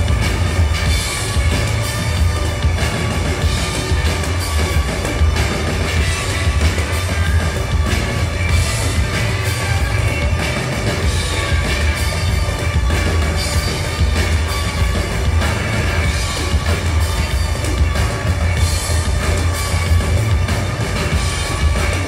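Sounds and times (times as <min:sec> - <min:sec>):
live band playing loud music: 0:00.0 - 0:22.0.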